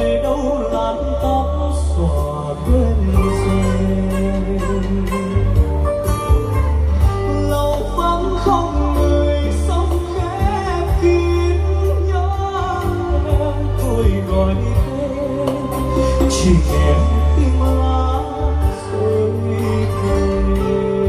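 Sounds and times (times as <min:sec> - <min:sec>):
live band with heavy bass: 0:00.0 - 0:21.0
person singing: 0:00.0 - 0:21.0.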